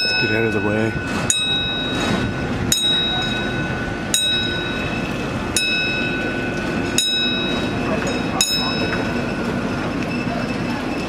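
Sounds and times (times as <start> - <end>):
boat carriage rumbling on rails: 0.0 - 11.0
warning bell ringing: 0.0 - 11.0.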